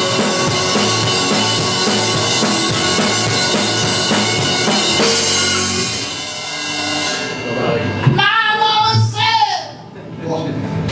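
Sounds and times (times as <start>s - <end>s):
cymbal ringing: 0.0s - 8.8s
band playing: 0.0s - 9.8s.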